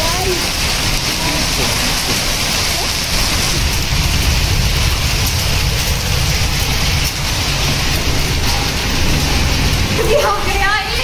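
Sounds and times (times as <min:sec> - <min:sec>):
hailstones ticking: 0:00.0 - 0:11.0
heavy rain and hail pattering: 0:00.0 - 0:11.0
low rumble: 0:00.3 - 0:11.0.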